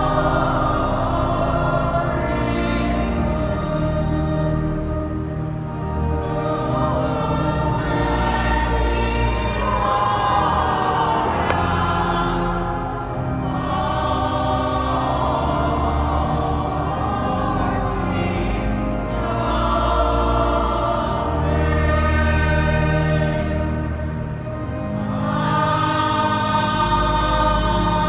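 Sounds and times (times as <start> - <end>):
choir singing in reverberant hall: 0.0 - 28.0.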